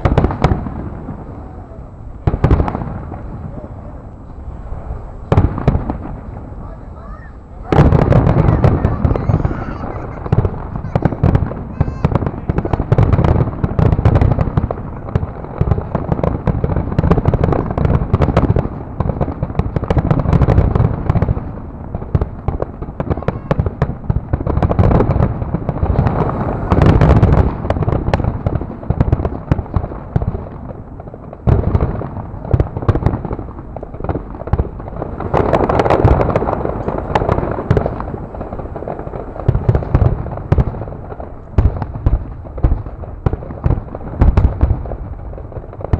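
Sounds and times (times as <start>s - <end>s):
fireworks booming and crackling: 0.0s - 45.9s.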